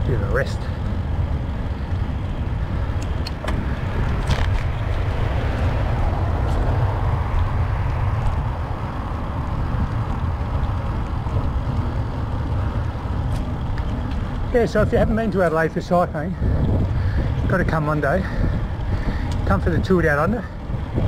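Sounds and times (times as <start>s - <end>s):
tyre and road noise: 0.0s - 21.0s
wind on microphone: 0.0s - 21.0s.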